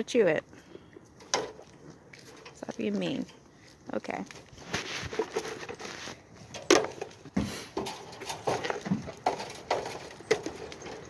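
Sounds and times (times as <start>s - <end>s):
goats crunching and chewing: 0.4s - 11.0s.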